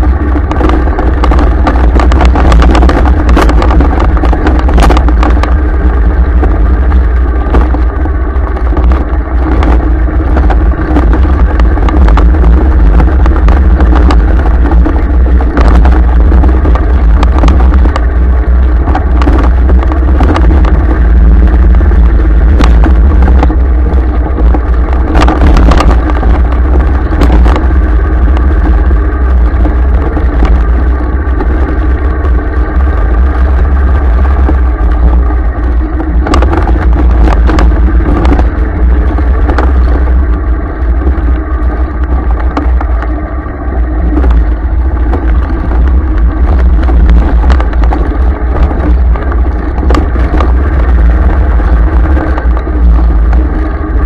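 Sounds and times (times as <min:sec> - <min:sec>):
vehicle engine running: 0:00.0 - 0:54.0
wind rumble on microphone: 0:00.0 - 0:54.0.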